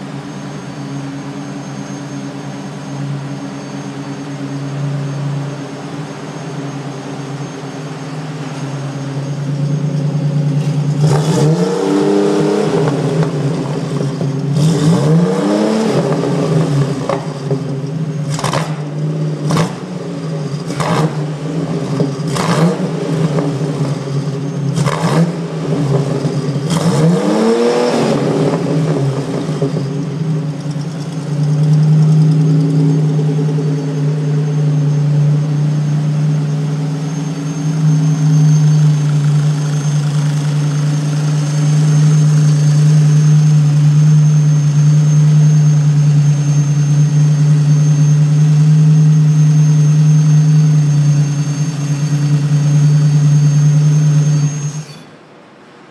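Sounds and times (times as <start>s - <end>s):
car engine idling and revving: 0.0s - 55.1s.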